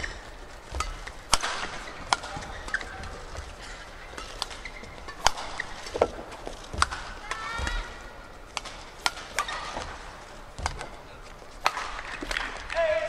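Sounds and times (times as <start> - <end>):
shoes squeaking on court: 0.0 - 12.7
racket hitting shuttlecock: 0.0 - 13.0.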